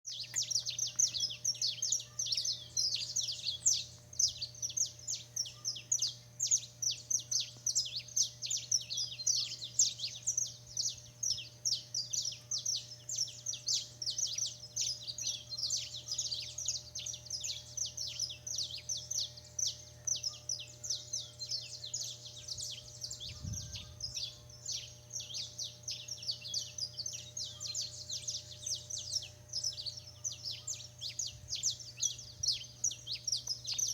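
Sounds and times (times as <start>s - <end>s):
small birds chirping: 0.0s - 33.9s
steady low hum: 0.2s - 33.9s.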